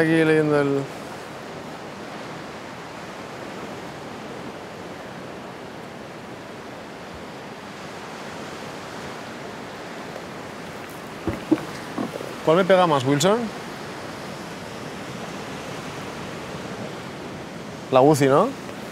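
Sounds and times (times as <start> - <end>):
sea surf: 0.0 - 18.9
wind: 0.0 - 18.9.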